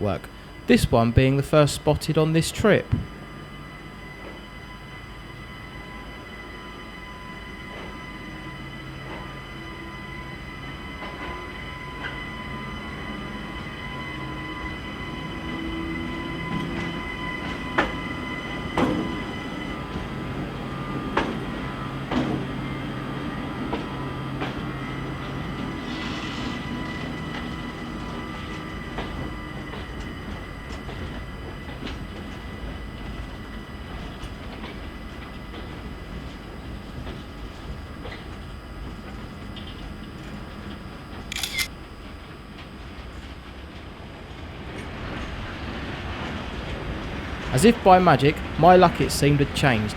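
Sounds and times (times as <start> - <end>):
electric locomotive hum: 0.0 - 49.9.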